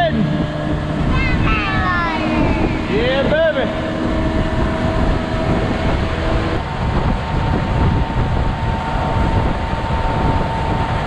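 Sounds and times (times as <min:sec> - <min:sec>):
outboard motor running: 0:00.0 - 0:11.0
water rushing past hull: 0:00.0 - 0:11.0
wind buffeting microphone: 0:00.0 - 0:11.0.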